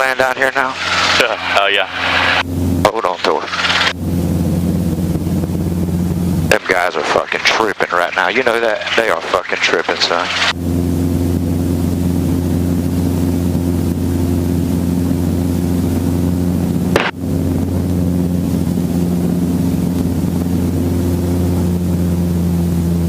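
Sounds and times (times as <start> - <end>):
helicopter engine and rotor droning: 0.0 - 23.0.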